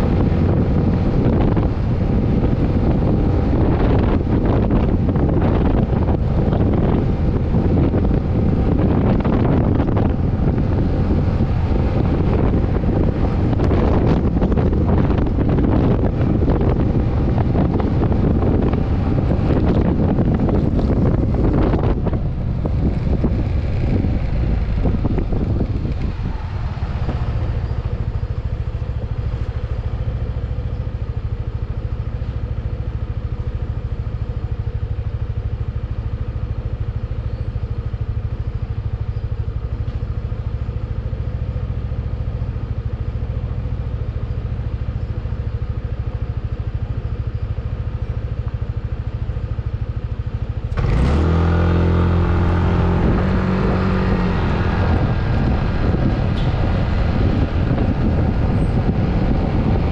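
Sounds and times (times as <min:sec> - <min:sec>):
scooter engine idling and revving: 0:00.0 - 0:59.9
wind and road noise: 0:00.0 - 0:59.9.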